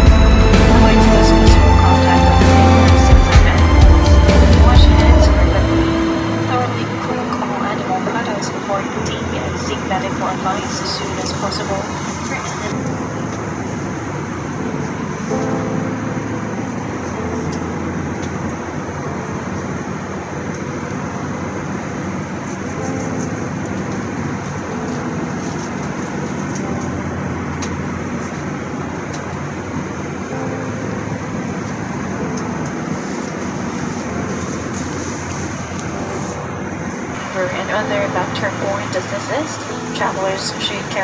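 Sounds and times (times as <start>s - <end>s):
airliner cabin jet roar: 0.0s - 41.0s.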